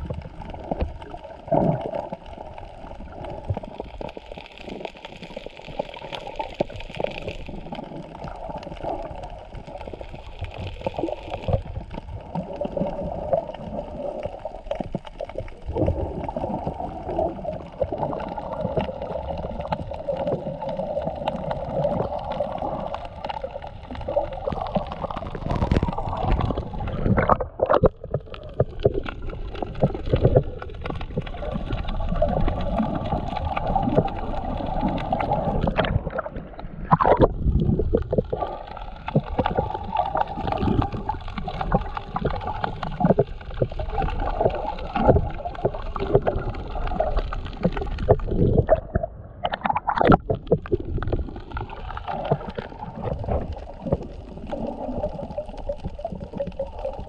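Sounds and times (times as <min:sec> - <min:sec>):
muffled underwater gurgling: 0:00.0 - 0:57.0.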